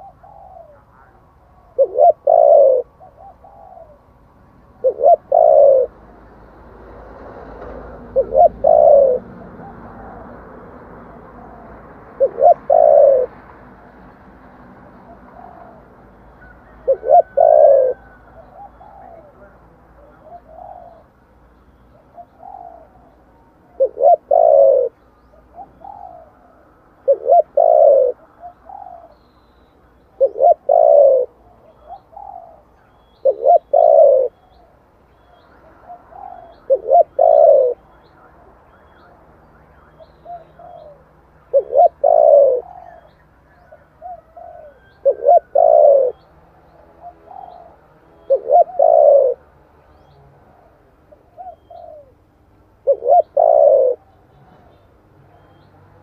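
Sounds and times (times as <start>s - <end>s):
dove cooing: 0.0s - 6.1s, 7.4s - 13.6s, 14.8s - 55.7s.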